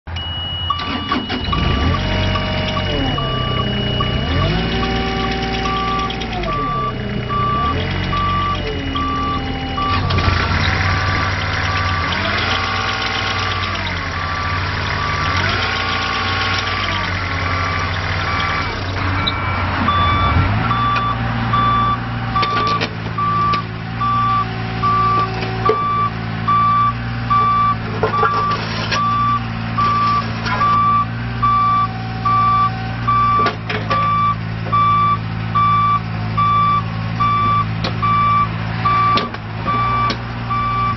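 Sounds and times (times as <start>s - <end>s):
excavator diesel engine running: 0.1s - 40.9s
beeping alarm: 0.2s - 10.2s, 11.3s - 40.9s.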